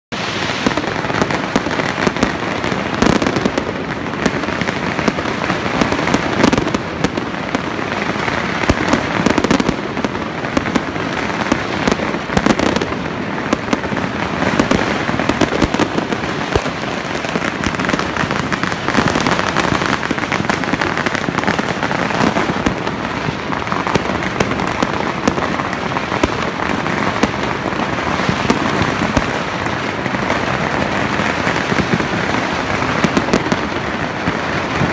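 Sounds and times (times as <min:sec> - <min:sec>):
fireworks crackling and banging: 0:00.1 - 0:34.9.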